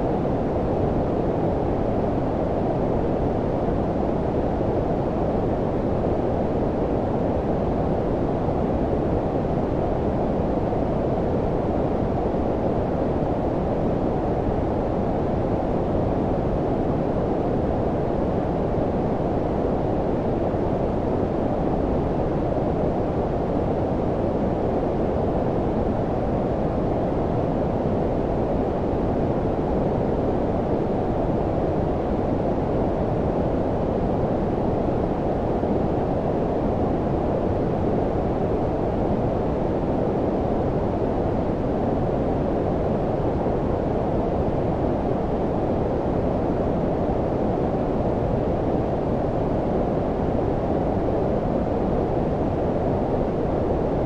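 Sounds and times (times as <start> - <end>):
low rumbling brown noise: 0.0 - 54.0.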